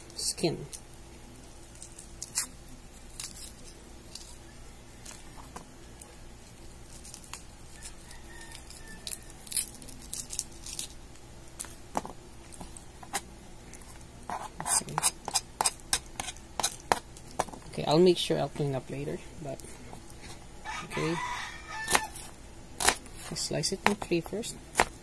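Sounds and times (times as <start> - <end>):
onion skin peeling crackles: 0.0 - 17.7, 19.6 - 25.0
low steady hum: 0.0 - 25.0.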